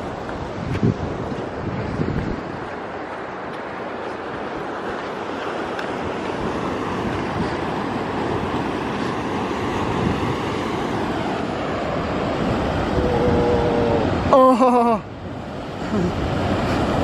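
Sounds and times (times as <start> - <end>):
wind buffeting microphone: 0.0 - 14.3
ocean surf on rocky shore: 0.0 - 17.0.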